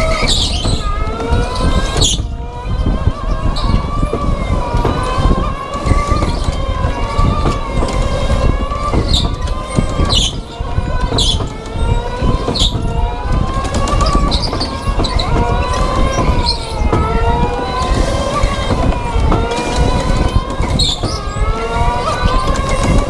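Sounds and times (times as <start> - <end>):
electric go-kart motors whining: 0.0 - 23.0
steady rumble: 0.0 - 23.0.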